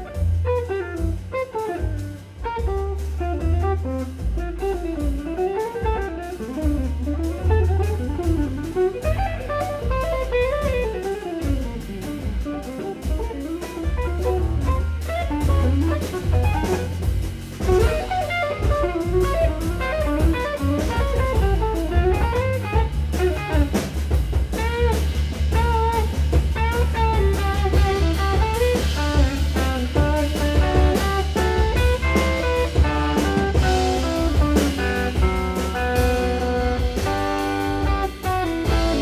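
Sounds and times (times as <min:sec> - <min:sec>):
bass: 0:00.0 - 0:39.0
drum kit with cymbals: 0:00.0 - 0:39.0
electric guitar lead line: 0:00.0 - 0:39.0.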